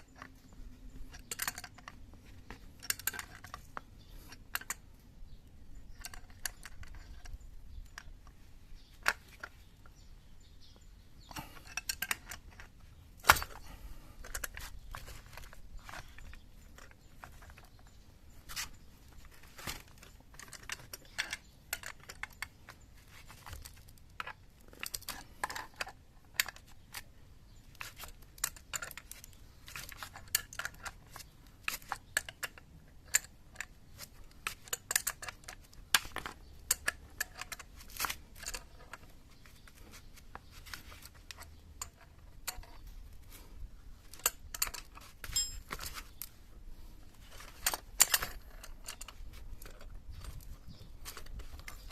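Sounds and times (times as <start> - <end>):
hand tools and metal parts clinking: 0.0 - 51.9.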